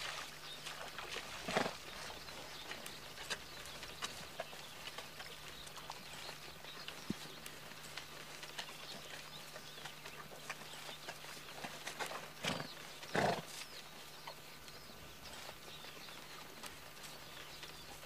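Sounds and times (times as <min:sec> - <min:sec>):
hooves shifting: 0:00.0 - 0:18.0
horses drinking: 0:00.0 - 0:18.0.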